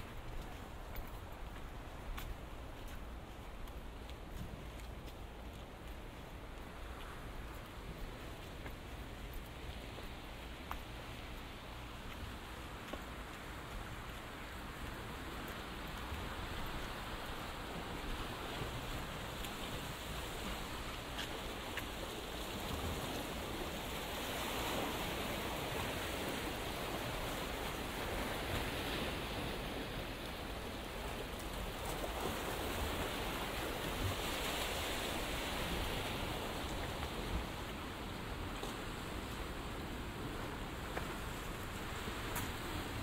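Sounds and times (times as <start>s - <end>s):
sea surf washing onto shore: 0.0s - 43.0s.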